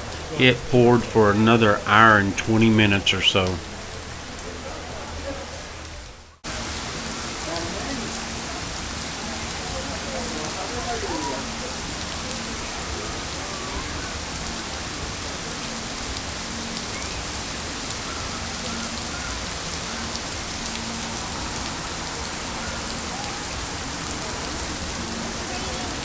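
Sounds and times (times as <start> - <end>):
heavy rain pouring: 0.0 - 4.4, 5.1 - 26.0.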